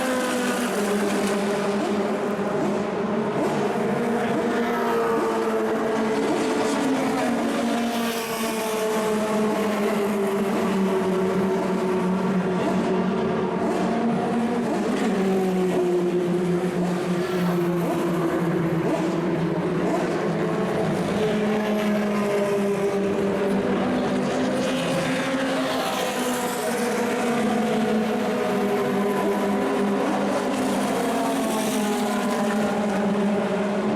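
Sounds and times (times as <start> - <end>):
racing car engines: 0.0 - 33.9.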